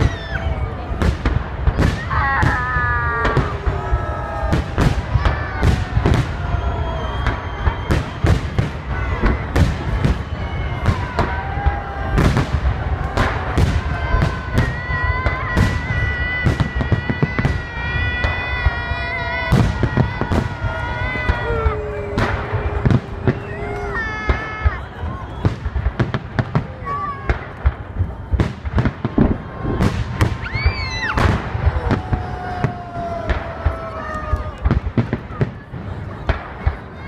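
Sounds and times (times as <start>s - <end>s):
firework bangs: 0.0s - 37.0s.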